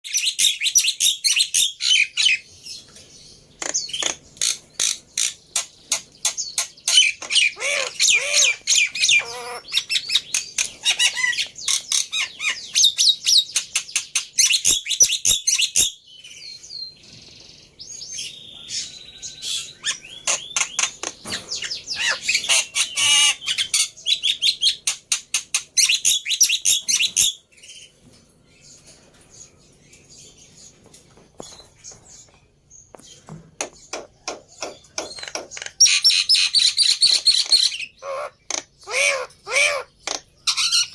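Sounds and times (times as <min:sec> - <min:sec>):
bird chattering and chirping: 0:00.1 - 0:17.4, 0:18.0 - 0:28.0, 0:31.4 - 0:40.9.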